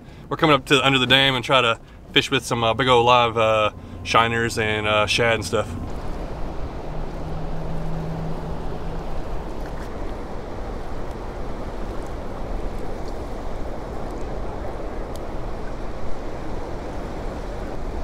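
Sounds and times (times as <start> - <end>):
turbulent water rushing: 0.0 - 18.0
wind rumble on microphone: 0.0 - 18.0.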